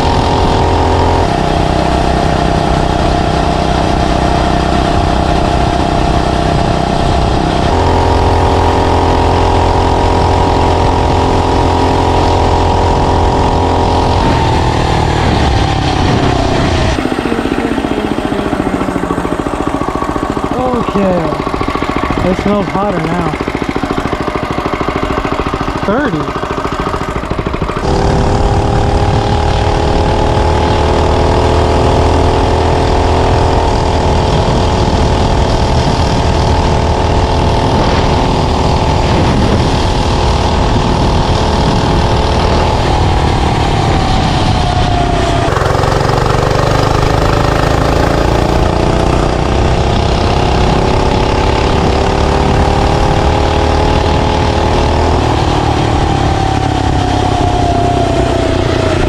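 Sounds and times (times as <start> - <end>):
small engine revving high: 0.0 - 59.0.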